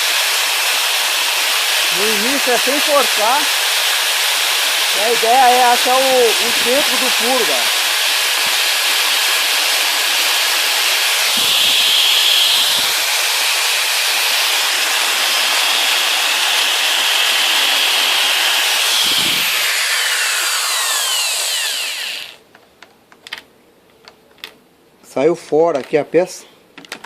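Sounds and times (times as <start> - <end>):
electric drill boring into metal: 0.0 - 22.4.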